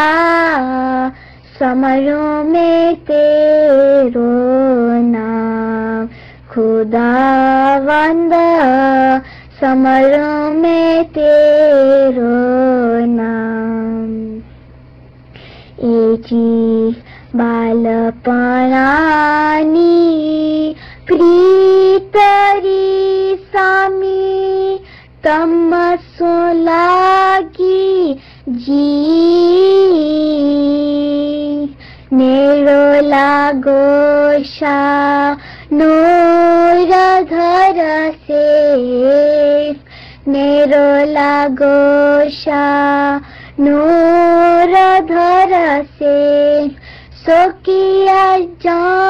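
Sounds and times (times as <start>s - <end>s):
high voice singing a hymn: 0.0s - 14.4s, 15.8s - 49.0s.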